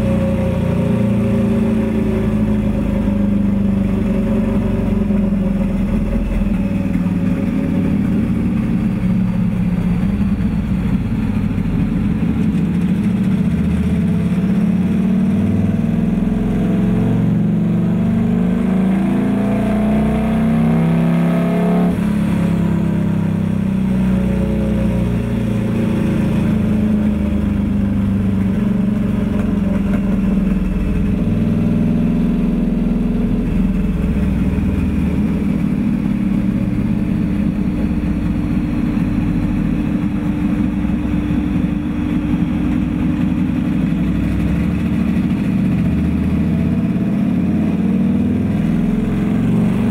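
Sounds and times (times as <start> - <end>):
motorcycle engine under load: 0.0 - 49.9.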